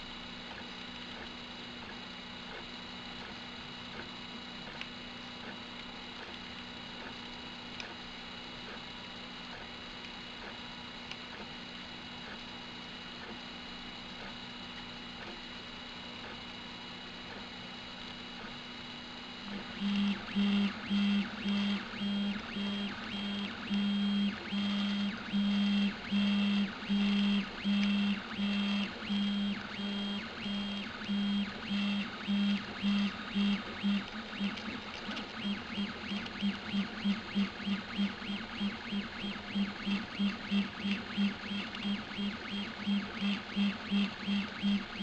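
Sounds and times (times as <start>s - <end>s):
three d printer motors whining: 0.0s - 45.0s.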